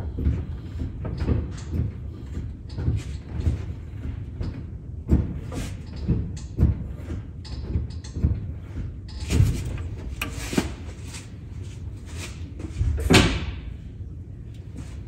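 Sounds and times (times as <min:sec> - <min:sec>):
knocks and clunks: 0:00.0 - 0:11.2, 0:12.5 - 0:13.9.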